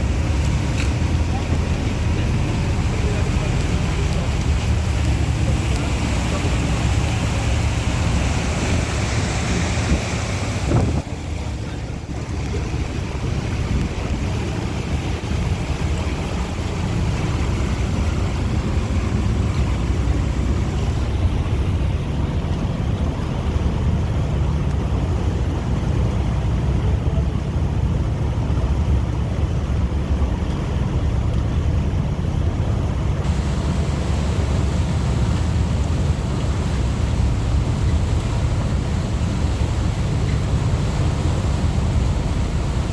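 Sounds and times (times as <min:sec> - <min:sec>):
motorboat engine rumble: 0:00.0 - 0:42.9
rushing water: 0:00.0 - 0:42.9
wind buffeting microphone: 0:00.0 - 0:42.9.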